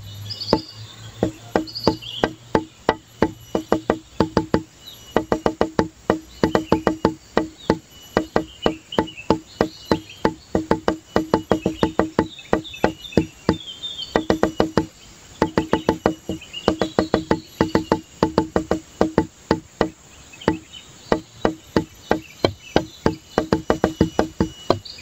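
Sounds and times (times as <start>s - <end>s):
high chirping twitters: 0.0s - 25.0s
hollow wood block notes: 0.5s - 25.0s.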